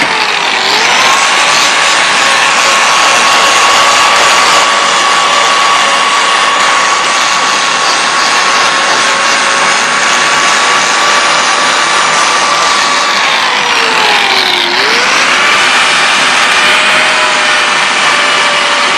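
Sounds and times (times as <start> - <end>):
forge air rushing: 0.0 - 18.9
steady whine: 0.0 - 18.9.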